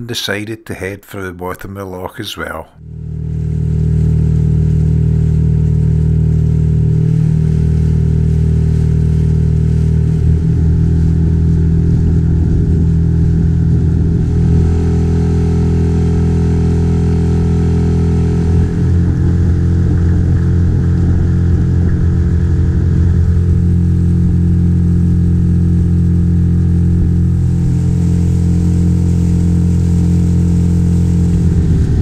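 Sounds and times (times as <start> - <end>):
outboard motor running: 2.8 - 32.0.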